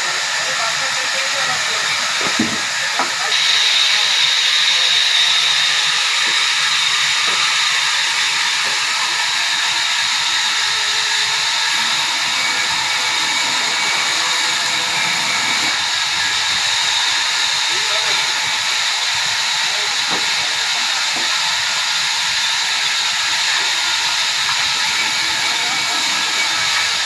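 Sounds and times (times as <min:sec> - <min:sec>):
sawmill saw cutting log: 0:00.0 - 0:27.0.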